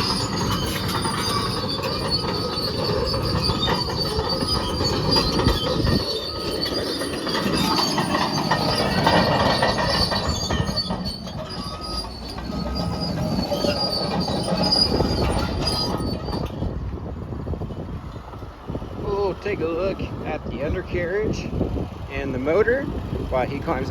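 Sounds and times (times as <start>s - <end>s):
steel tracks squealing and clanking: 0.0s - 20.1s
bulldozer engine rumble: 0.0s - 23.9s.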